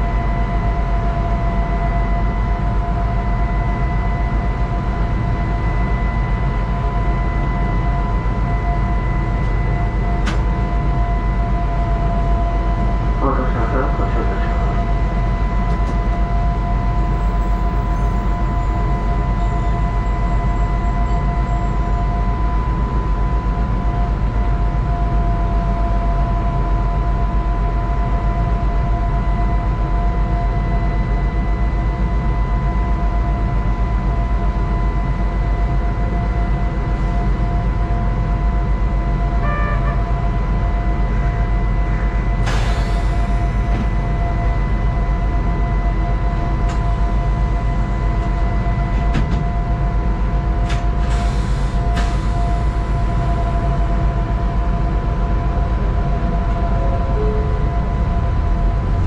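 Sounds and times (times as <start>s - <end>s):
train equipment hum and whine: 0.0s - 59.0s.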